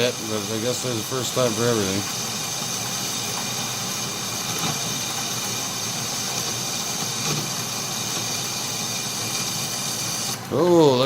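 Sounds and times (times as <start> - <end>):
metal lathe cutting steel: 0.0 - 11.0.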